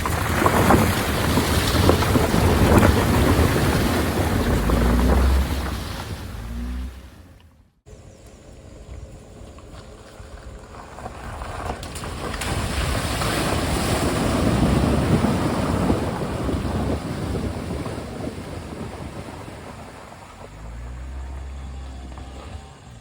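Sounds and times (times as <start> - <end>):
vehicle splashing through river: 0.0 - 7.6, 10.0 - 23.0.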